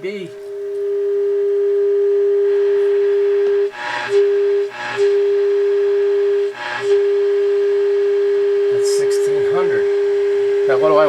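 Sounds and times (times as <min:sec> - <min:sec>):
radio speaker test tone: 0:00.0 - 0:11.0.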